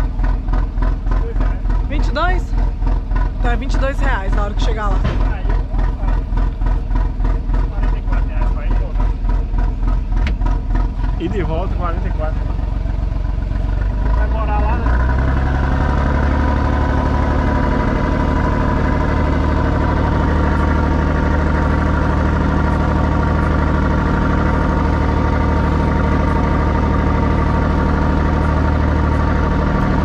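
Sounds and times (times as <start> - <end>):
ship engine drone: 0.0 - 30.0.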